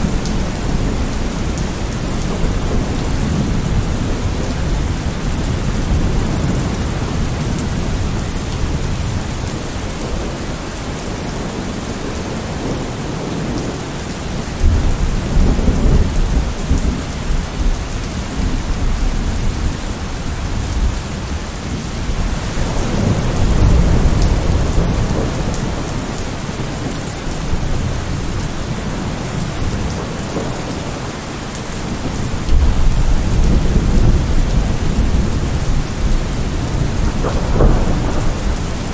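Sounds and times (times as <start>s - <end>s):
rolling thunder: 0.0s - 31.0s, 31.7s - 38.9s
heavy rain: 0.0s - 38.9s.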